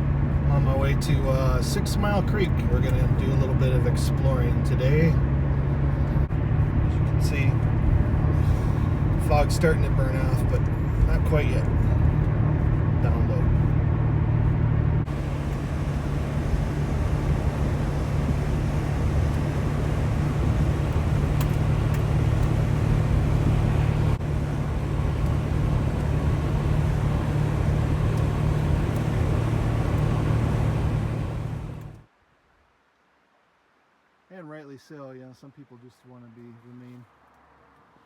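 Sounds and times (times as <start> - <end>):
constant low hum: 0.0 - 32.1
car engine and road noise: 0.0 - 32.2, 36.2 - 38.0.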